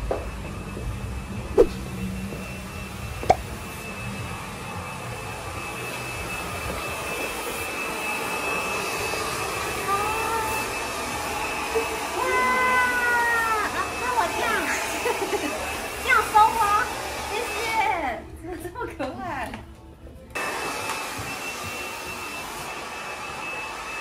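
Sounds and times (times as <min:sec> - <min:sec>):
hair dryer whirring: 0:00.0 - 0:18.3, 0:20.3 - 0:24.0.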